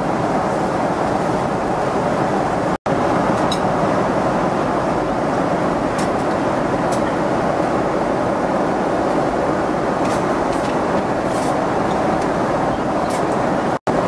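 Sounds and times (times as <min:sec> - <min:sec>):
airliner cabin roar: 0:00.0 - 0:14.0.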